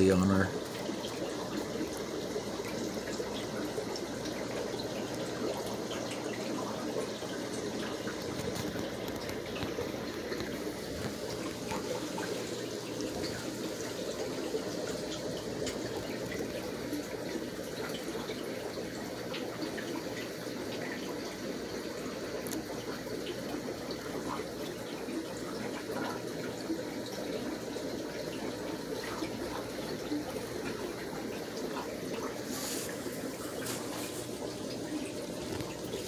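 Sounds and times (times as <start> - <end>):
aquarium water splashing: 0.0 - 36.0.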